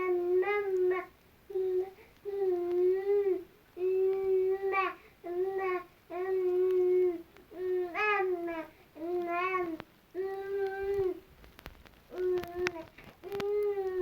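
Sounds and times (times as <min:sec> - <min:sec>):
baby babbling in long vowels: 0:00.0 - 0:11.2.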